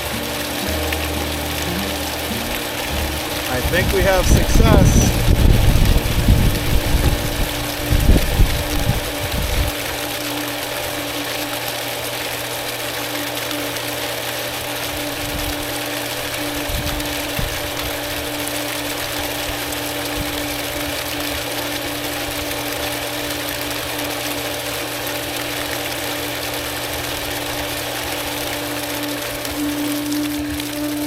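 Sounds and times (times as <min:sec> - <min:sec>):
electric water pump humming: 0:00.0 - 0:31.0.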